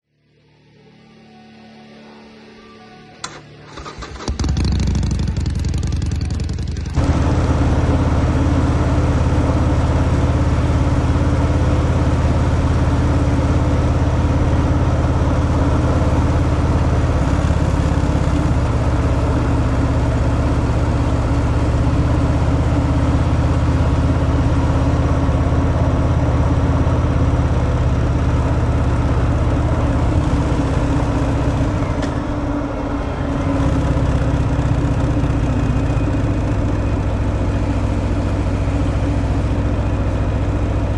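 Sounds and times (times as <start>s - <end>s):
motorcycle engine idling: 3.8s - 40.9s.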